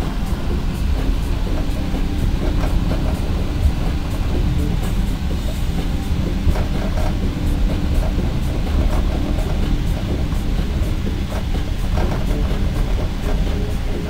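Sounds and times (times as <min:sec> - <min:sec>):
train rumbling: 0:00.0 - 0:14.0
wheels clattering on rails: 0:00.0 - 0:14.0.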